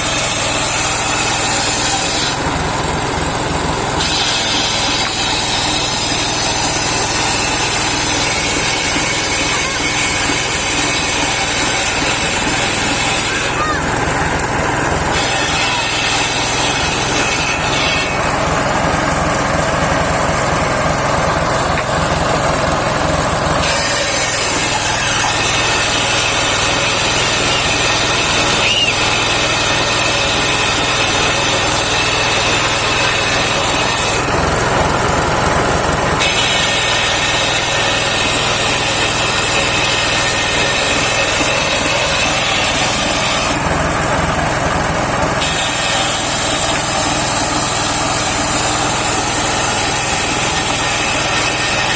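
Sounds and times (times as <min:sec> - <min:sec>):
circular sawmill sawing wood: 0:00.0 - 0:51.9.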